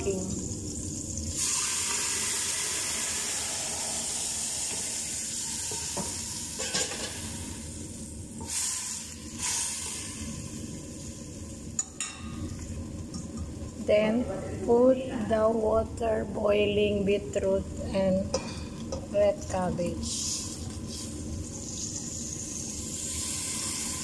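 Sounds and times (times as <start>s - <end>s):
broth sizzling in a pot: 0.0s - 14.2s, 16.9s - 24.0s.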